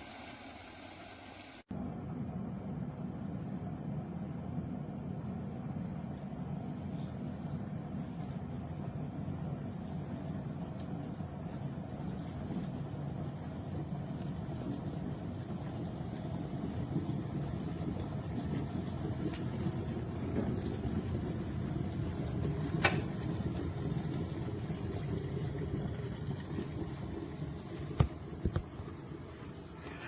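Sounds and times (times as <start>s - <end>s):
electric kettle heating water: 0.0s - 1.7s, 5.8s - 30.0s.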